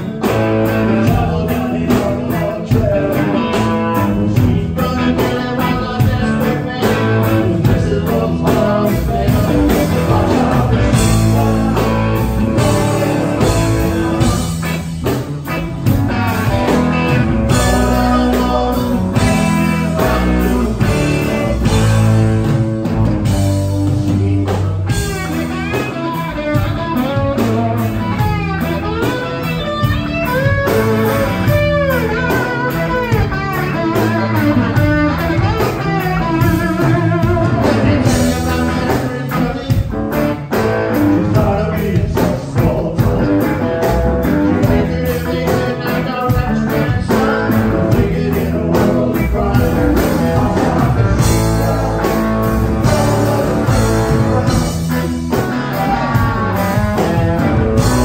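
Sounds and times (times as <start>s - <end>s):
bass guitar: 0.0s - 58.0s
bending guitar lead line: 0.0s - 58.0s
drum kit: 0.0s - 58.0s
electric guitars: 0.0s - 58.0s.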